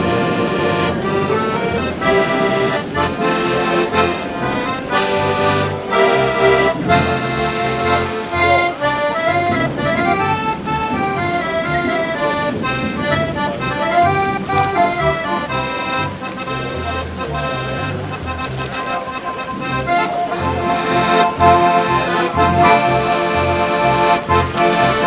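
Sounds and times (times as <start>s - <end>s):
accordion playing lively tune: 0.0s - 25.0s.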